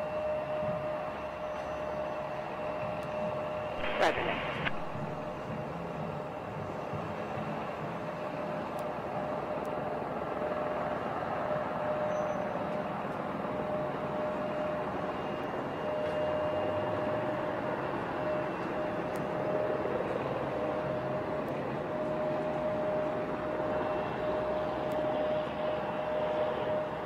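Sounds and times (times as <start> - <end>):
jet engines roaring with whine: 0.0 - 27.0.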